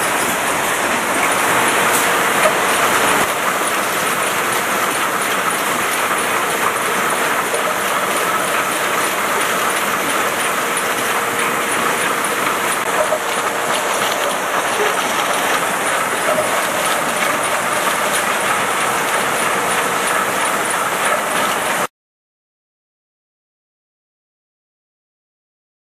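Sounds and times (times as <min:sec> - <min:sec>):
machinery and bottles clattering: 0:00.0 - 0:21.9.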